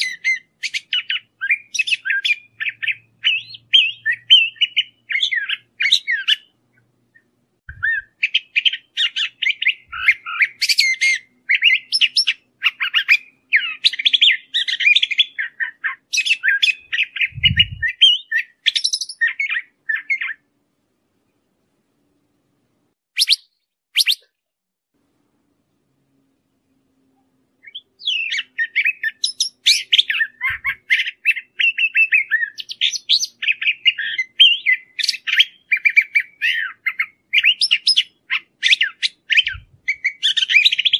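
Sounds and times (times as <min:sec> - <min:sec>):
bird singing: 0:00.0 - 0:20.5, 0:23.2 - 0:24.3, 0:26.6 - 0:40.9.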